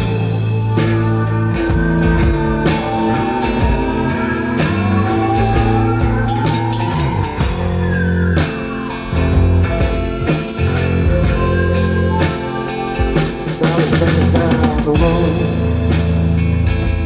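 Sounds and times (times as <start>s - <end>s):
bass notes: 0.0s - 17.0s
drum kit beating: 0.0s - 17.0s
lead guitar bending: 0.0s - 17.0s.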